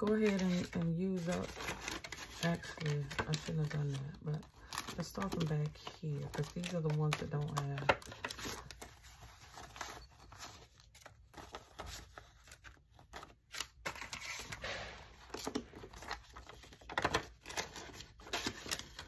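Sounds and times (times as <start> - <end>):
paper banknotes rustling: 0.0 - 19.0
plastic binder pockets crinkling: 0.0 - 19.0.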